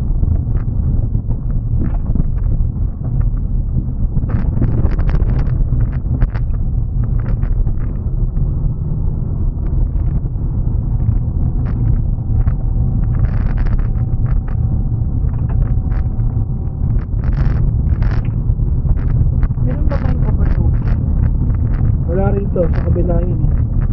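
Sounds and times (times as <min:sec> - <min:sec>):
car road and engine rumble: 0:00.0 - 0:23.9
gravel clicks and knocks: 0:00.0 - 0:23.9.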